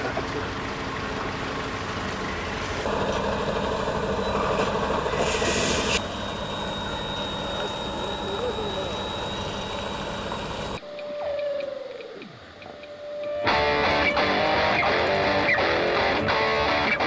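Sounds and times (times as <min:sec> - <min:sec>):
truck diesel engine running: 0:00.0 - 0:10.8, 0:13.4 - 0:17.0.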